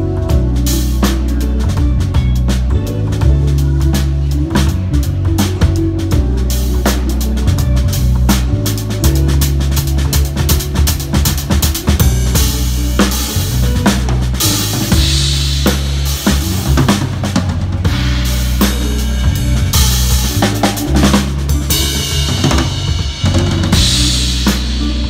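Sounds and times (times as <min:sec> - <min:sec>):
drum kit played with sticks: 0:00.0 - 0:25.0
low bass line: 0:00.0 - 0:25.0.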